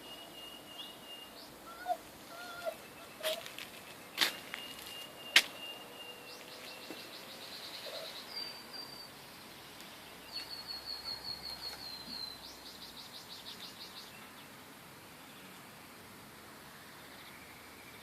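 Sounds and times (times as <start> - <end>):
bird chirping: 0.0 - 14.6.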